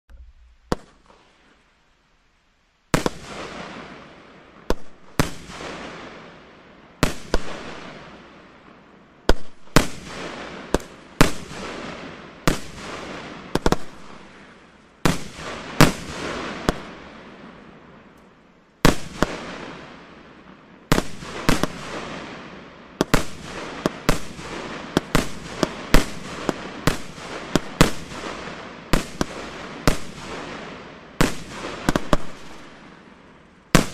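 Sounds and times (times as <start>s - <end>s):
fireworks bangs: 0.1s - 1.5s, 2.9s - 6.4s, 7.0s - 8.6s, 9.3s - 18.1s, 18.8s - 33.9s.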